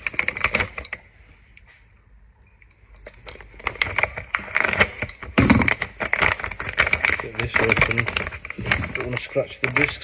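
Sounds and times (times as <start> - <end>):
packaging crinkling and rustling: 0.0 - 1.1, 3.0 - 10.0.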